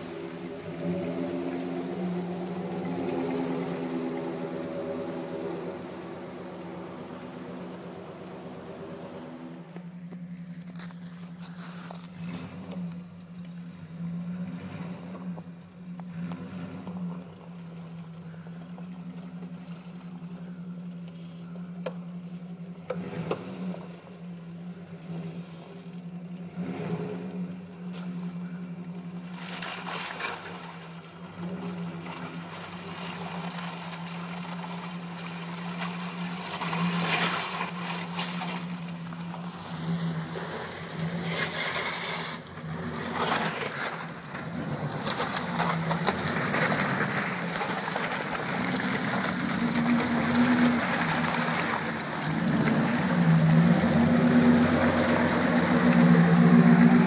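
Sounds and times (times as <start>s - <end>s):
engine running at low revs: 0.0s - 57.0s
muddy water sloshing: 0.0s - 57.0s.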